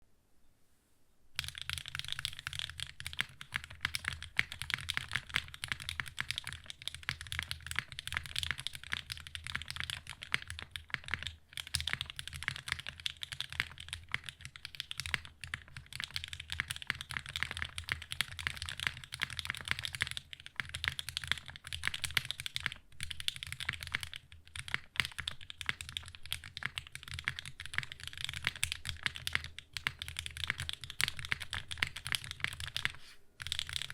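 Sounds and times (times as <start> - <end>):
fast typing on mechanical keyboard: 1.4 - 33.9.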